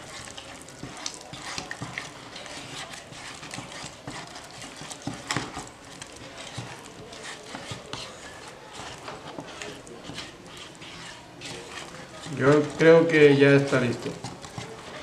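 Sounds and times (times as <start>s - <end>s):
spatula scraping putty in tub: 0.0s - 15.0s.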